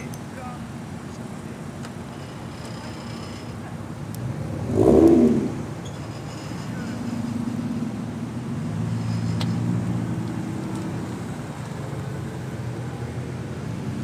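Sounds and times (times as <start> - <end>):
car engines passing slowly: 0.0 - 14.0.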